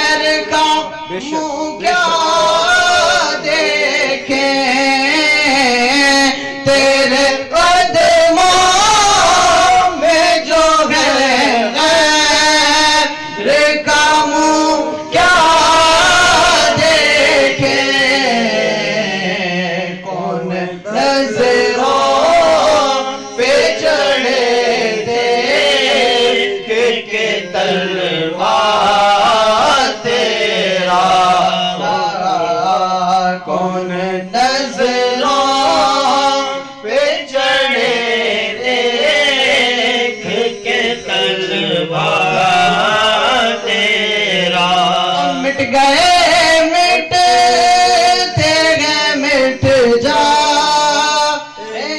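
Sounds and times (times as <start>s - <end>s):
man singing devotional song: 0.0s - 51.9s.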